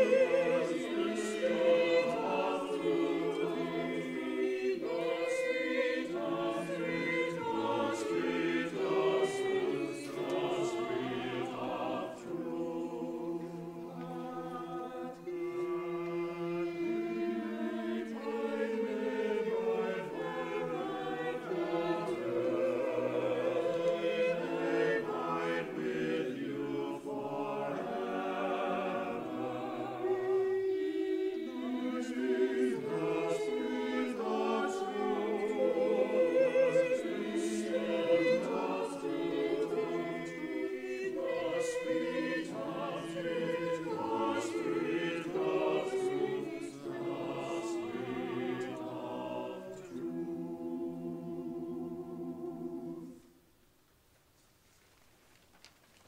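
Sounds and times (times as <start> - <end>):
church choir singing: 0.0 - 53.4.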